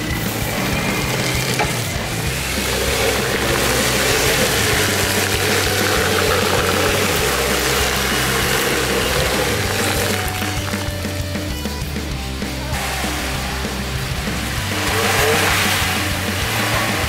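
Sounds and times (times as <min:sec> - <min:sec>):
off-road engine driving through mud: 0:00.0 - 0:17.0.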